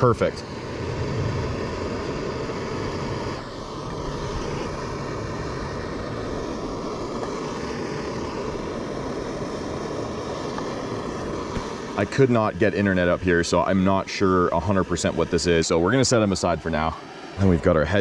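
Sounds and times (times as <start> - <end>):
gas stove burning: 0.0 - 18.0.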